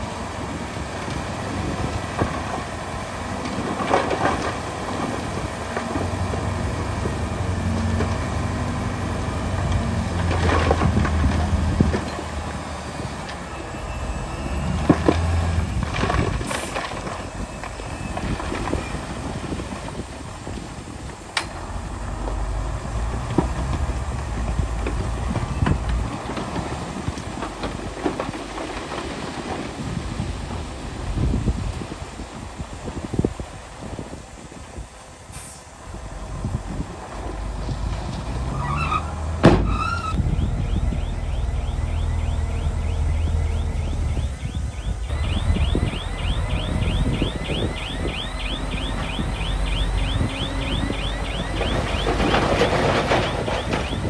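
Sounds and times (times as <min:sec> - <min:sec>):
bulldozer diesel engine: 0:00.0 - 0:54.0
steel tracks clattering: 0:00.0 - 0:54.0.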